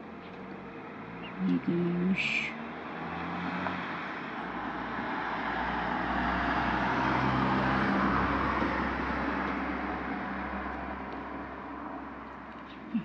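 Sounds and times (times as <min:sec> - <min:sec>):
vehicle passing: 0:00.2 - 0:13.0.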